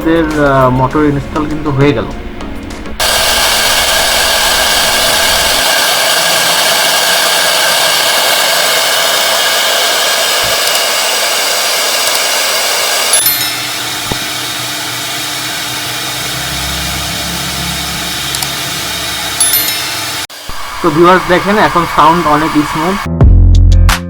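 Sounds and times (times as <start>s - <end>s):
router spindle motor whine: 3.0s - 23.1s.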